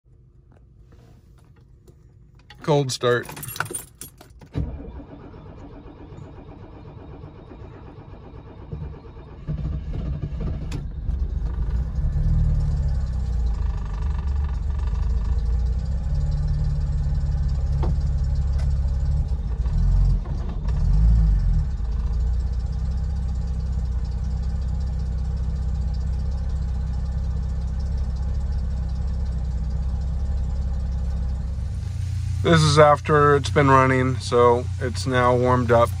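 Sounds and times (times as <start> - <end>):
car engine revving and idling: 5.0 - 36.0.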